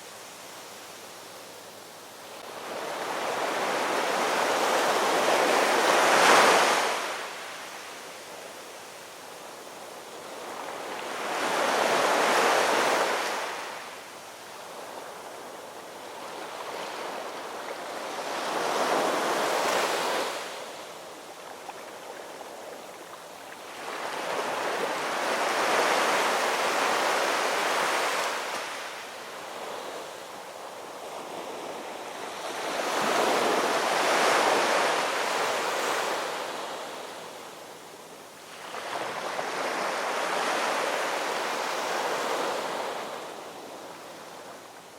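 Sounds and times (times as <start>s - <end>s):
waves breaking on shore: 2.4s - 7.9s, 10.2s - 37.5s, 38.4s - 44.9s.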